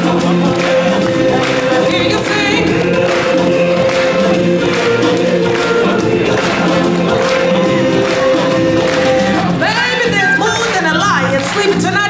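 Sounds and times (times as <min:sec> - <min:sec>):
choir singing: 0:00.0 - 0:10.5
instrumental backing music: 0:00.0 - 0:12.0.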